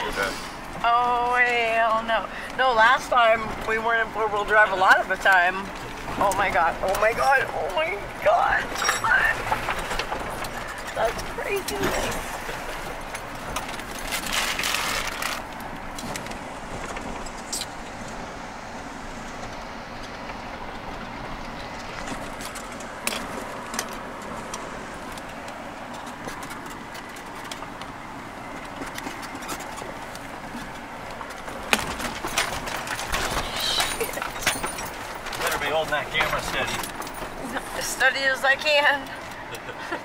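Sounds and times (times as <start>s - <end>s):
engine and tyre noise: 0.0s - 40.0s.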